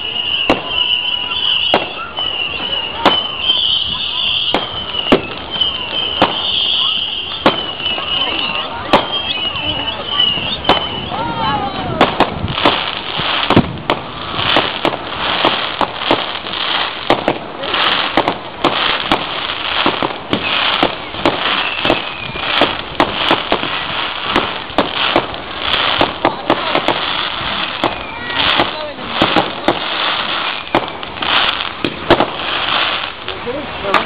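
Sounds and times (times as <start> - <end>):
fireworks banging: 0.0 - 34.0
continuous hiss: 4.6 - 34.0.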